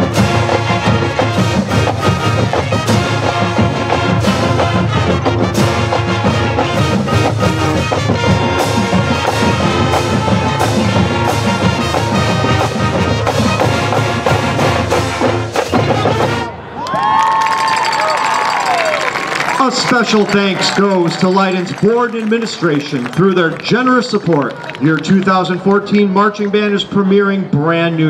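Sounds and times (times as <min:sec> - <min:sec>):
marching band playing: 0:00.0 - 0:24.4.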